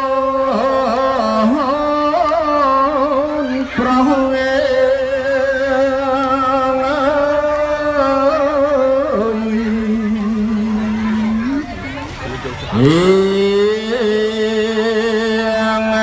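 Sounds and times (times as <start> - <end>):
man chanting into a microphone: 0.0 - 11.7, 12.6 - 16.0.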